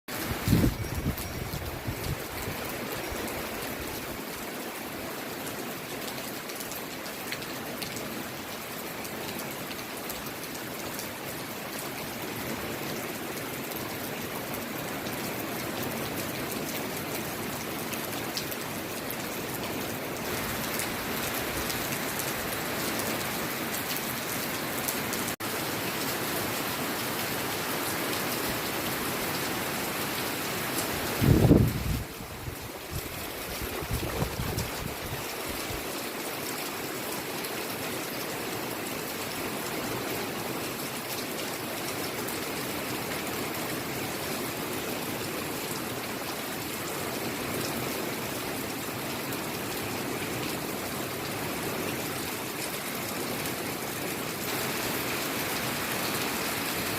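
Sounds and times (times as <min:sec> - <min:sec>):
heavy rain falling: 0:00.1 - 0:56.9.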